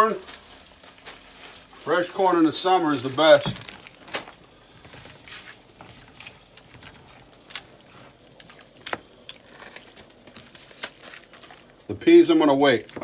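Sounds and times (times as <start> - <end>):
food simmering hiss: 0.0 - 13.0
wooden spoon stirring in skillet: 0.0 - 13.0.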